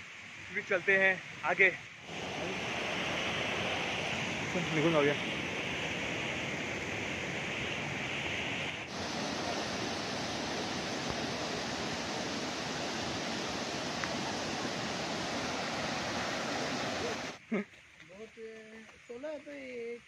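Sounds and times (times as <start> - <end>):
waterfall and river rushing: 0.0 - 17.4.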